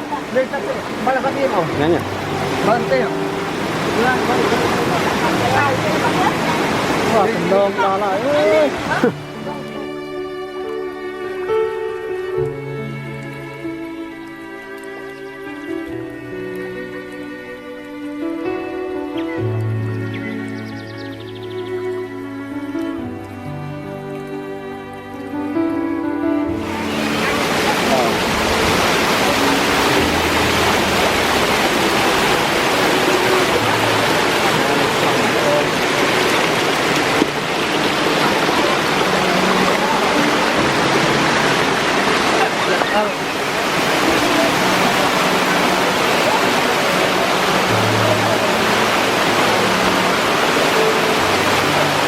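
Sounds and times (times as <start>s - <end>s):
waterfall rushing: 0.0s - 25.4s, 26.5s - 52.0s.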